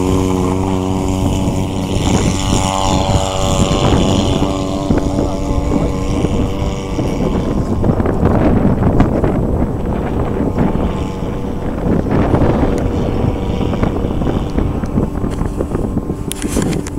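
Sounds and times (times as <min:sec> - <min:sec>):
model plane propeller engine: 0:00.0 - 0:16.9
wind rumbling on microphone: 0:00.0 - 0:16.9.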